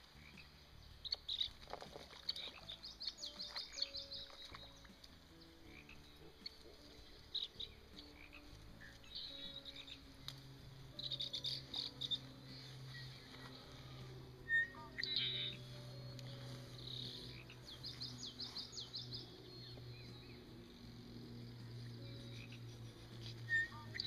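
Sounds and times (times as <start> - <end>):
frogs croaking: 0.0 - 24.0
high chirping: 2.2 - 24.0.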